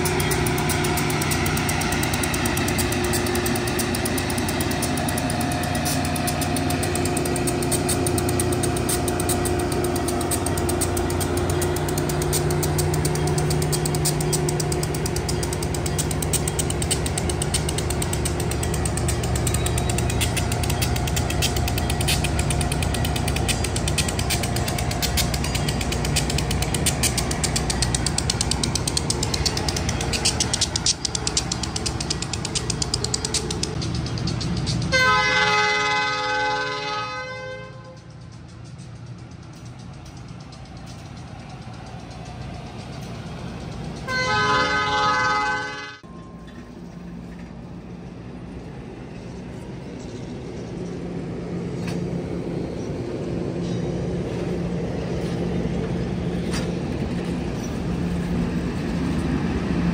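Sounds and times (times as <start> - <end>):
diesel locomotive engine running: 0.0 - 59.9
train wheels clicking and rattling: 0.0 - 59.9.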